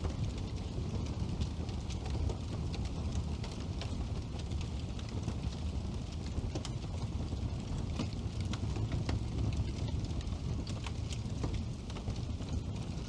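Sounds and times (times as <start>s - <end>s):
fire flames rumbling: 0.0s - 13.0s
wood crackling and popping: 0.0s - 13.0s.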